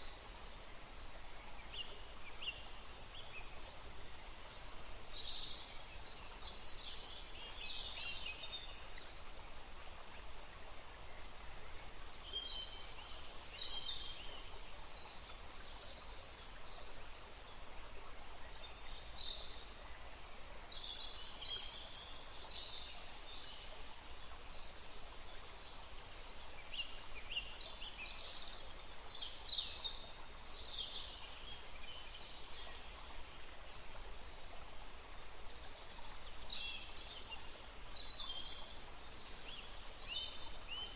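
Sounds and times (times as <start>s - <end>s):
running water: 0.0s - 40.9s
wind in trees: 0.0s - 40.9s.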